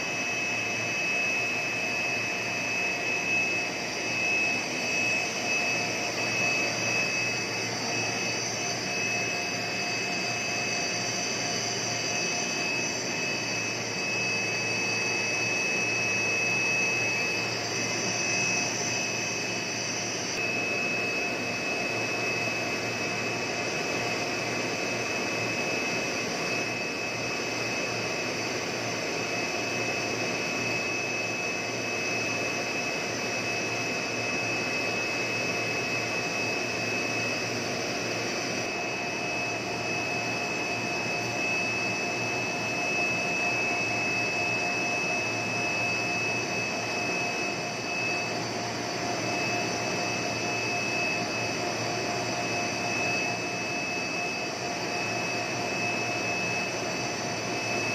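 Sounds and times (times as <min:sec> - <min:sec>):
high-pitched whine: 0:00.0 - 0:57.9.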